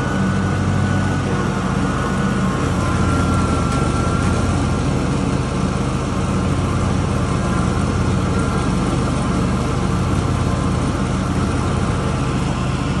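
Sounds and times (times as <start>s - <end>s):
mower cutting tall grass: 0.0s - 13.0s
riding mower engine droning: 0.0s - 13.0s.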